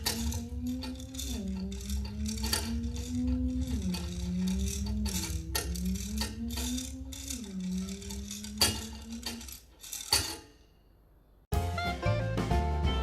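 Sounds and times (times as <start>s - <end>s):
dense rattling: 0.0s - 11.1s.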